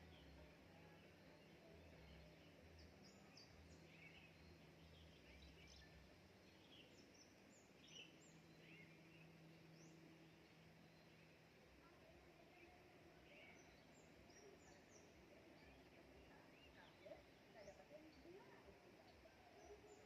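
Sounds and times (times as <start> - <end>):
faint low hum: 0.0 - 20.0
small birds chirping: 0.0 - 20.0.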